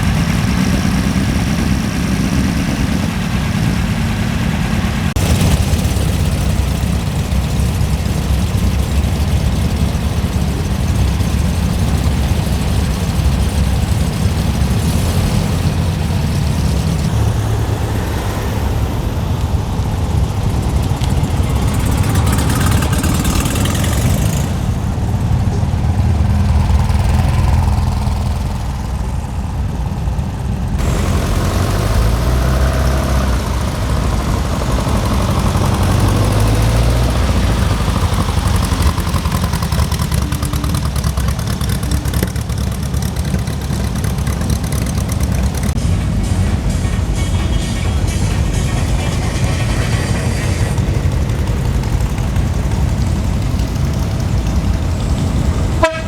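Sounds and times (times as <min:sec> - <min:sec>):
car engines idling: 0:00.0 - 0:56.0.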